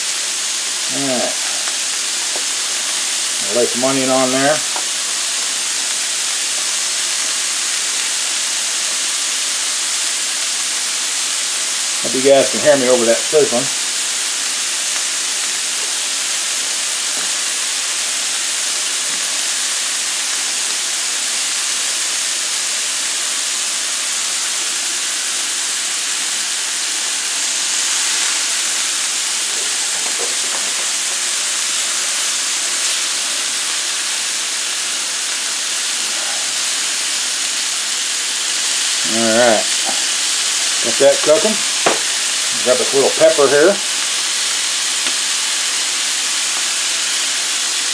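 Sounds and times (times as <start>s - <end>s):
meat sizzling on a griddle: 0.0s - 47.9s.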